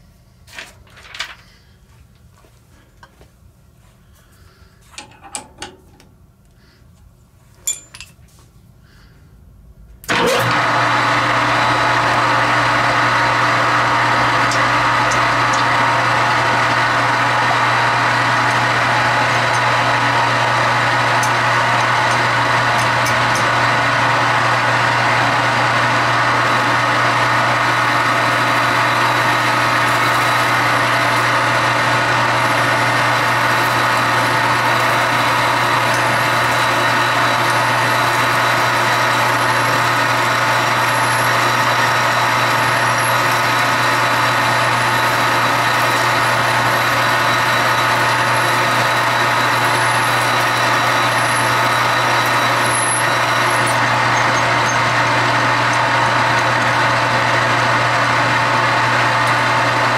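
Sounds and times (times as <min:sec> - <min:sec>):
drill pushed through steel: 0:10.1 - 0:59.9
metal lathe humming and whining: 0:10.1 - 0:59.9.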